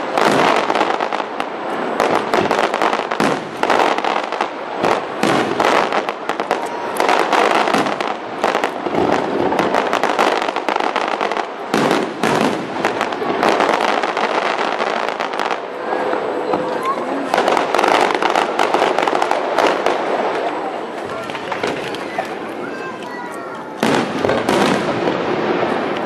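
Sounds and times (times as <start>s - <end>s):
fireworks bangs and crackle: 0.0s - 26.0s.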